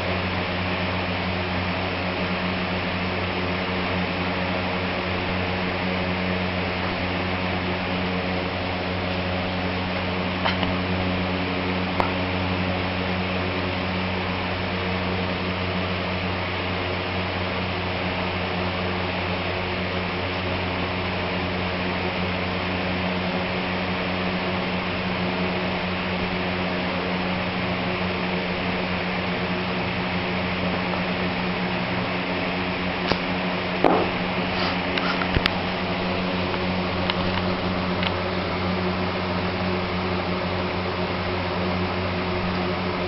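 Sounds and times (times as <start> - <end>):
fan or motor humming: 0.0 - 43.0.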